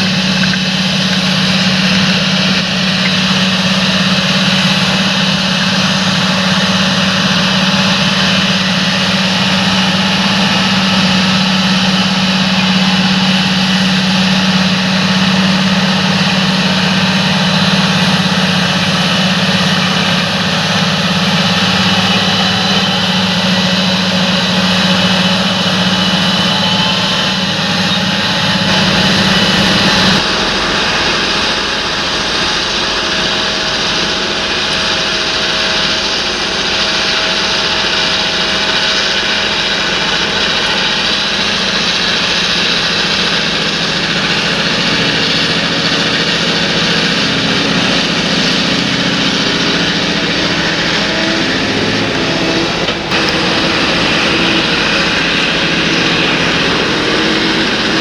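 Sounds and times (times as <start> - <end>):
light steady machine sound: 0.0 - 58.0
tractor engine humming: 0.0 - 58.0.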